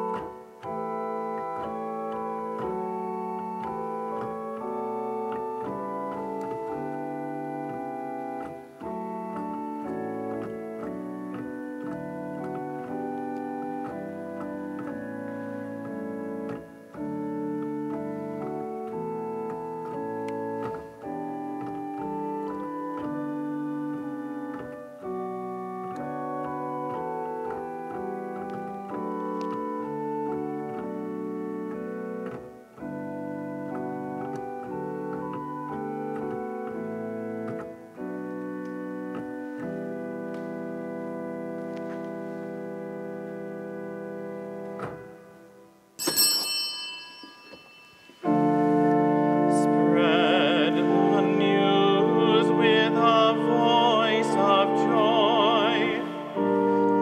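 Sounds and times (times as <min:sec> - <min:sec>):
church organ chords: 0:00.0 - 0:47.0, 0:48.1 - 0:57.0.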